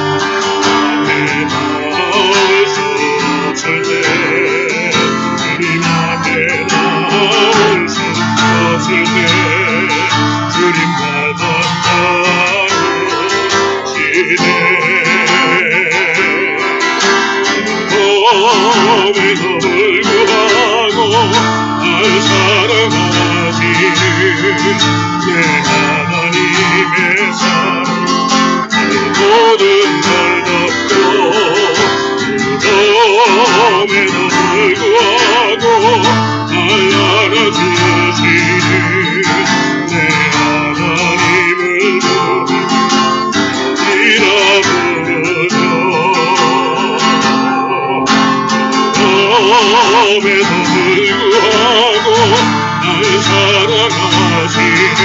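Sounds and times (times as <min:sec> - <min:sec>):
person singing: 0:00.0 - 0:55.0
strummed acoustic guitar: 0:00.0 - 0:55.0.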